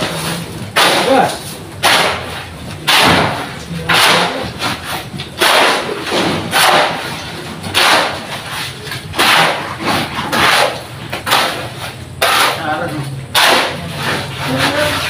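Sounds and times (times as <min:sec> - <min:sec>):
wet concrete scraping and sloshing: 0:00.0 - 0:15.0.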